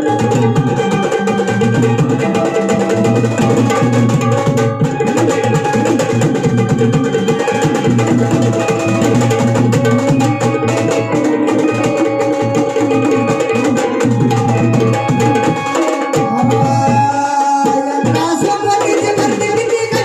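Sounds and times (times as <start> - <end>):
sustained melodic instrument tones: 0.0 - 17.4.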